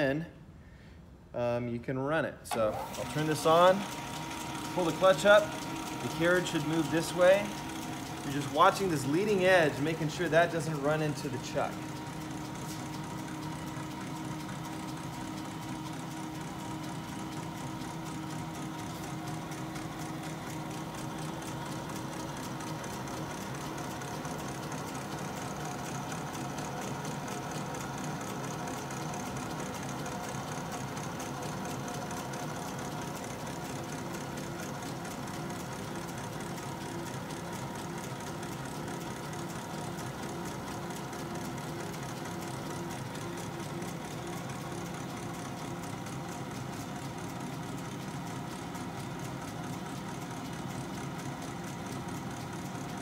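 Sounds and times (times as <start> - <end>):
metal lathe whirring: 2.6 - 53.0.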